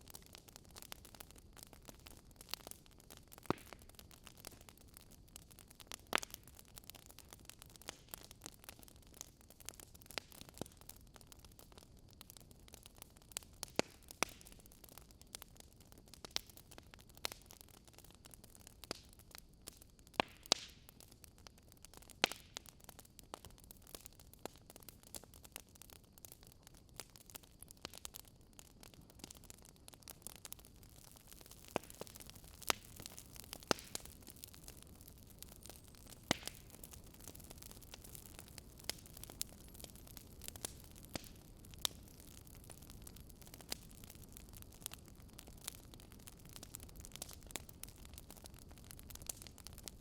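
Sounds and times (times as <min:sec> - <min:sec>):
faint steady hiss: 0:00.0 - 0:50.0
wood fire crackling: 0:00.0 - 0:50.0.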